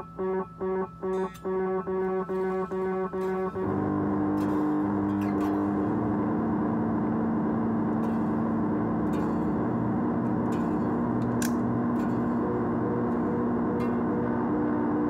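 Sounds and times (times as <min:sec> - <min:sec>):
electric guitar delay drone: 0:00.0 - 0:15.0.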